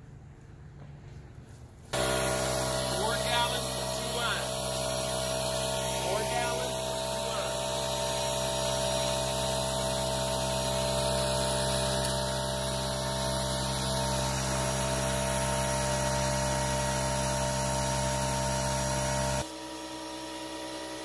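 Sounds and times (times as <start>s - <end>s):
air blower running: 1.8s - 21.0s.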